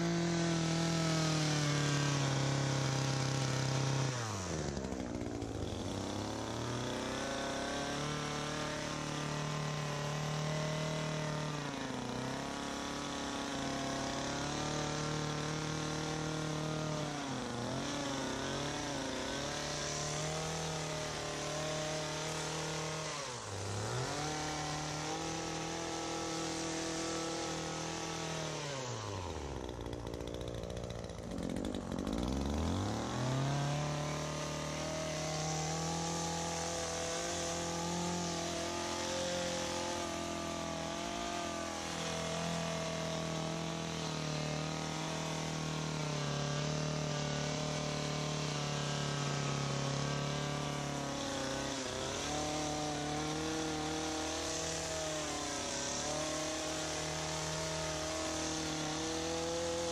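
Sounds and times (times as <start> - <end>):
hedge trimmer engine revving: 0.0 - 59.9.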